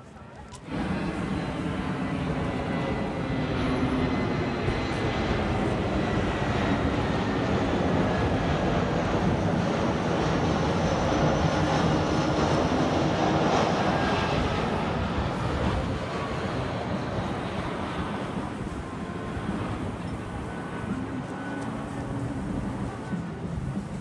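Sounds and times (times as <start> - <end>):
jet airliner engines rushing: 0.3 - 24.0.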